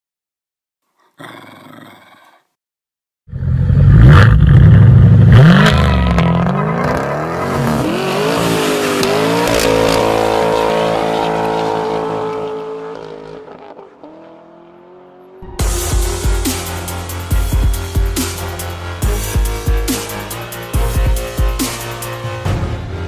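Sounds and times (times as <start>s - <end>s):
car engine revving: 3.3s - 22.4s.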